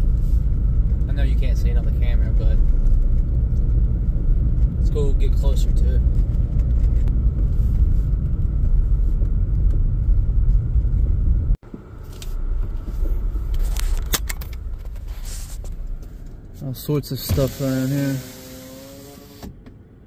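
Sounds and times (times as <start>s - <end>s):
quieter rumble: 0.0s - 19.5s
car driving rumble inside cabin: 0.0s - 20.0s.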